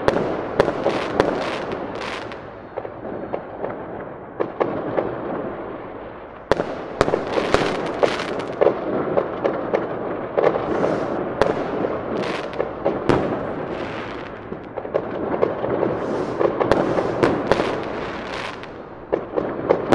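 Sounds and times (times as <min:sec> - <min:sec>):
fireworks banging: 0:00.0 - 0:05.2, 0:06.4 - 0:19.9
fireworks crackling: 0:00.0 - 0:19.9.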